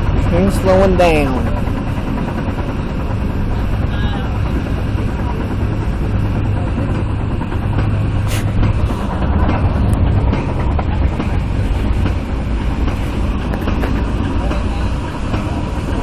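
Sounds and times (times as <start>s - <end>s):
train running over track: 0.0s - 16.0s
wheels clicking over rail joints: 1.4s - 16.0s.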